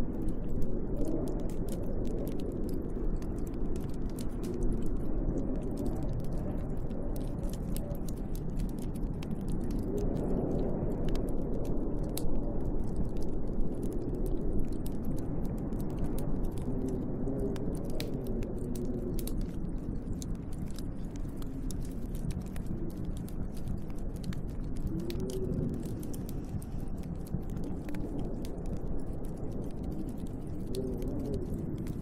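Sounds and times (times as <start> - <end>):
wind howling: 0.0 - 32.0
wood fire crackling: 0.0 - 32.0.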